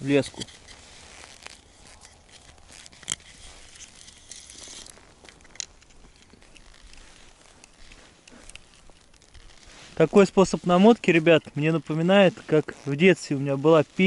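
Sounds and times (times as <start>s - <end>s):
plastic spool rustling and scraping: 0.0s - 14.0s.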